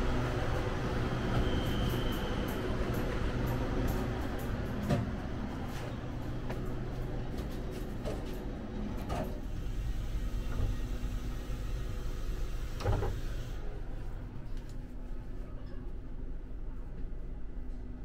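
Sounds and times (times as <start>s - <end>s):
train carriage low hum: 0.0s - 18.0s.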